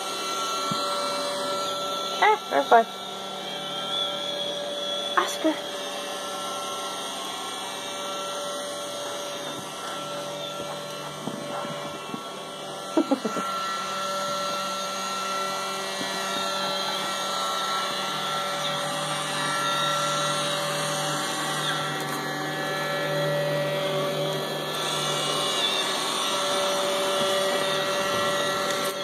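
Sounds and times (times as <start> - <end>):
robot vacuum motor hum: 0.0 - 29.0.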